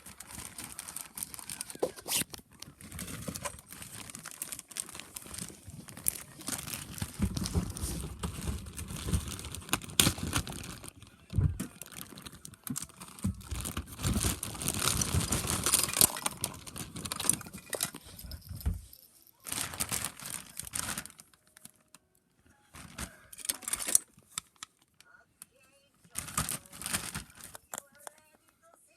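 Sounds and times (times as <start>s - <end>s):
toys being rummaged through: 0.0s - 21.8s, 22.7s - 24.9s, 26.1s - 28.3s.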